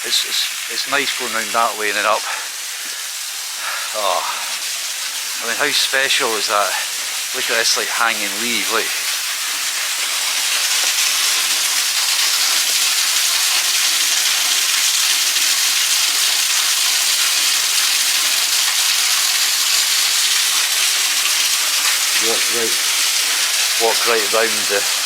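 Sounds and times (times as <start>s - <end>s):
rushing water hiss: 0.0s - 25.0s.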